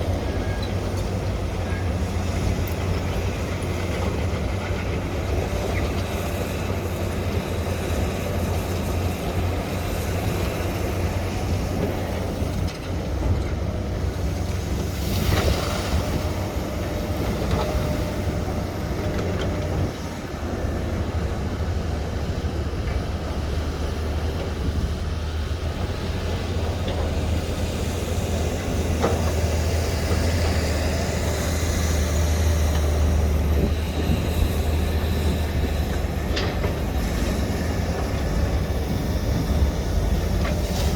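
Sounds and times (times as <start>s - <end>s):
excavator diesel engine drone: 0.0s - 40.9s.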